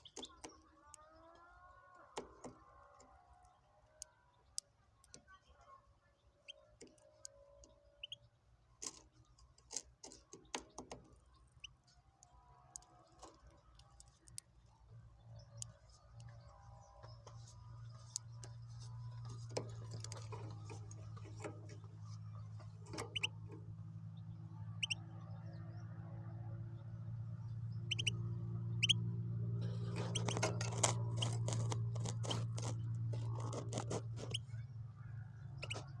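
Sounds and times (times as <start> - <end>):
bird chirping and clicking: 0.0 - 26.0, 26.7 - 36.0.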